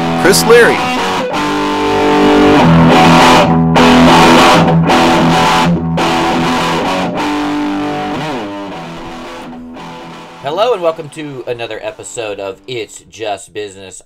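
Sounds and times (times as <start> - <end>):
guitar theme music: 0.0 - 13.4.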